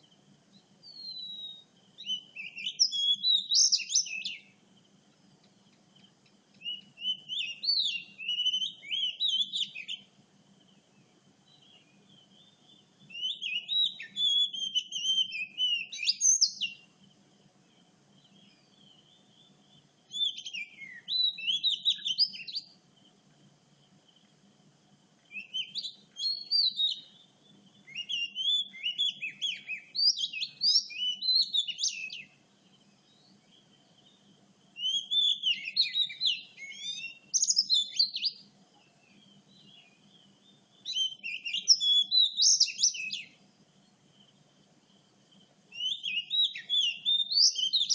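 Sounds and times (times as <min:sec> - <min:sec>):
bird singing whistled notes: 0:00.0 - 0:04.6, 0:05.5 - 0:17.0, 0:17.6 - 0:22.8, 0:25.3 - 0:44.4, 0:45.7 - 0:47.9.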